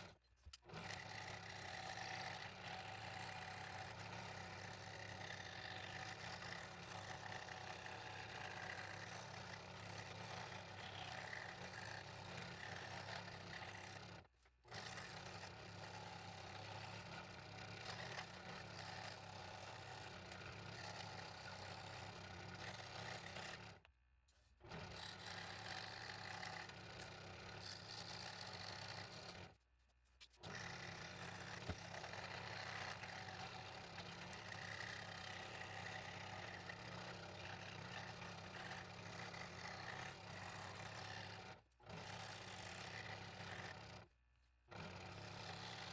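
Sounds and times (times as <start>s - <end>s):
scroll saw cutting wood: 0.0s - 23.9s, 24.6s - 29.6s, 30.3s - 44.1s, 44.7s - 45.9s.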